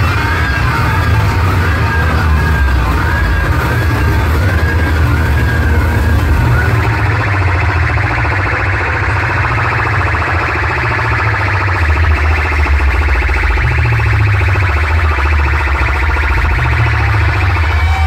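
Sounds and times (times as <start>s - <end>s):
loud electronic music with heavy bass: 0.0s - 18.0s.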